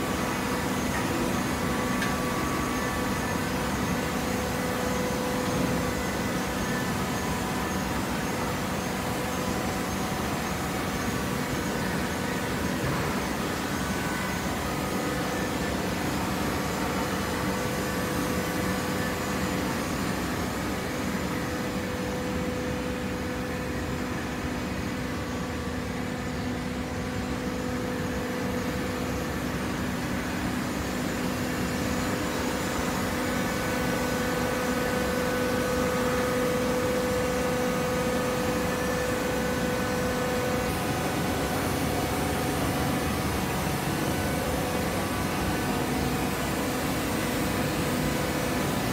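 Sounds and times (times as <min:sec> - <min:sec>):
baler mechanical hum: 0:00.0 - 0:48.9
mid-pitched machine whine: 0:00.0 - 0:48.9.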